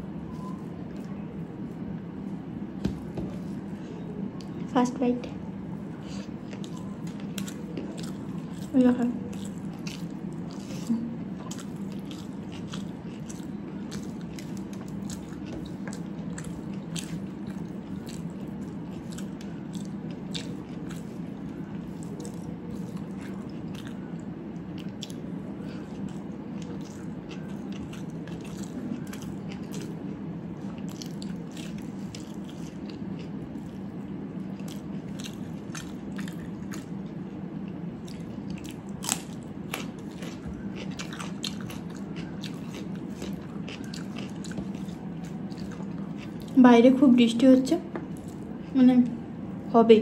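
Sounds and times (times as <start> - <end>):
steady low hum: 0.0 - 50.0
person chewing crunchy food: 5.8 - 46.6, 48.0 - 48.8.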